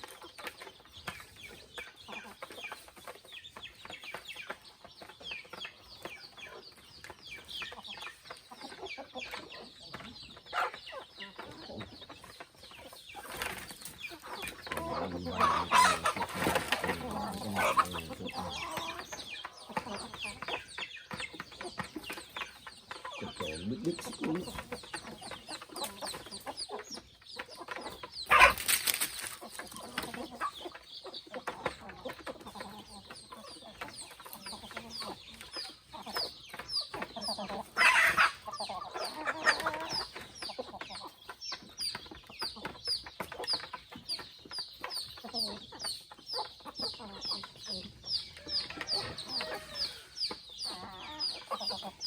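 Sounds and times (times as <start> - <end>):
chickens clucking and calling: 0.0 - 52.0.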